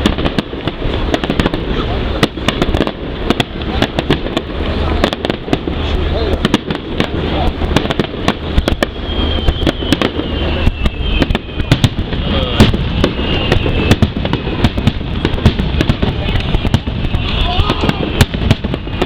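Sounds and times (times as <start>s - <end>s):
continuous rumble: 0.0s - 19.0s
fireworks bangs and crackles: 0.0s - 19.0s.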